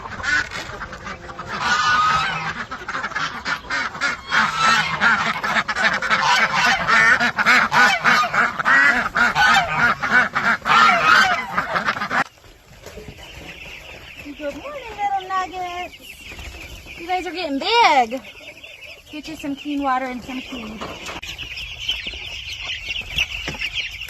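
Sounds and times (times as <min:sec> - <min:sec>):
waterfowl calling: 0:00.0 - 0:12.4, 0:13.0 - 0:24.0.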